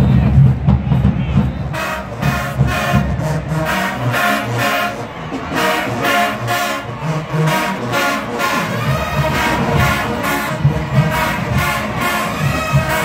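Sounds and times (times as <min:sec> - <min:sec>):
deep drum beats: 0:00.0 - 0:13.0
marching band brass playing: 0:00.0 - 0:13.0.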